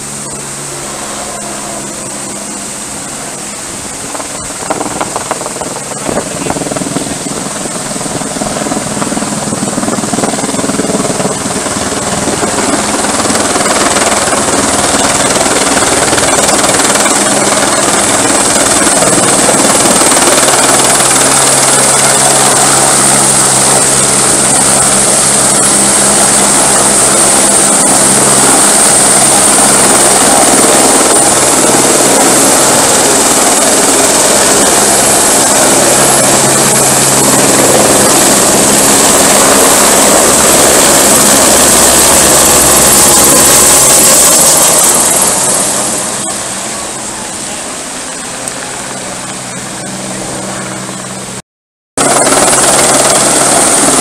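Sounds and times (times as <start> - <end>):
helicopter rotor beat: 0.0 - 51.4, 52.0 - 54.0
high turbine whine: 0.0 - 51.4, 52.0 - 54.0.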